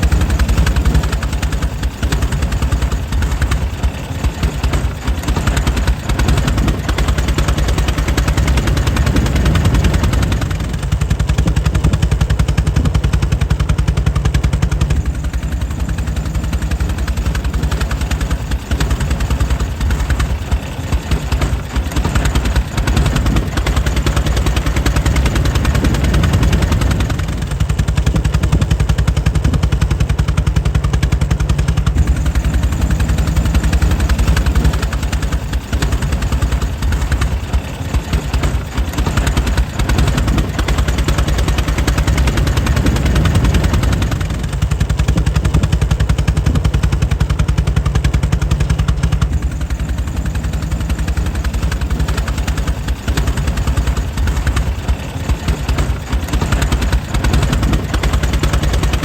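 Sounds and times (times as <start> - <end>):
air-cooled engine popping: 0.0 - 59.0.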